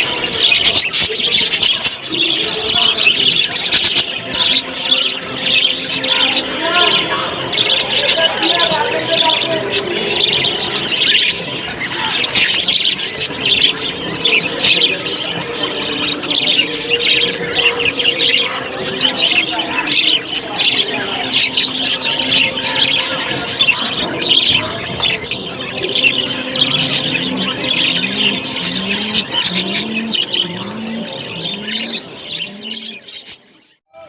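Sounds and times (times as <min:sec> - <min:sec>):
budgerigars chattering: 0:00.0 - 0:33.8.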